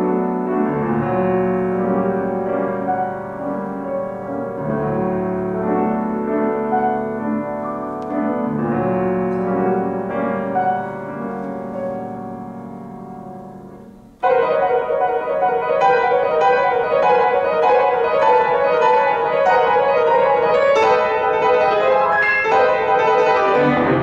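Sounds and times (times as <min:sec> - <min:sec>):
solo grand piano: 0:00.0 - 0:24.0.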